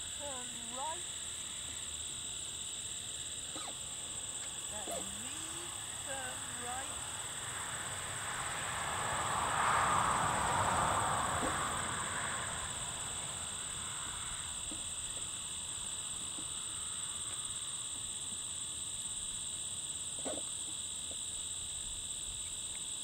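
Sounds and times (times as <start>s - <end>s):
crickets and insects chirping: 0.0s - 23.0s.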